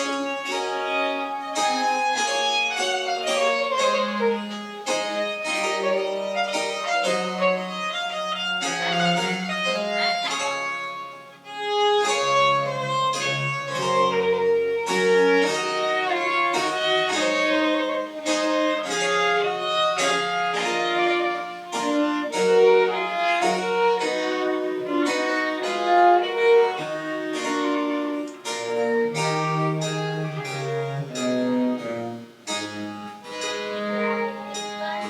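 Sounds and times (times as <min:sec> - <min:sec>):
violin melody: 0:00.0 - 0:35.0.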